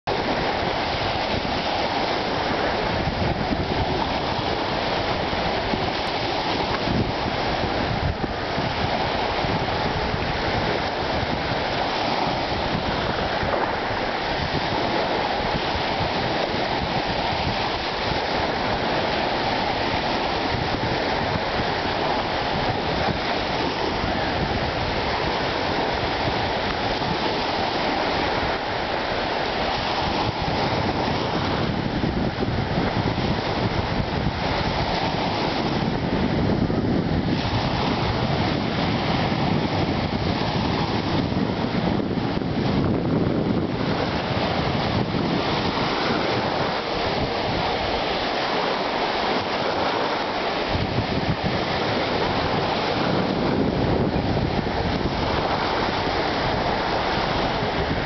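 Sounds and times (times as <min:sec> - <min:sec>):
sea waves washing onto sand: 0:00.0 - 0:58.0
wind rumbling on microphone: 0:00.0 - 0:58.0.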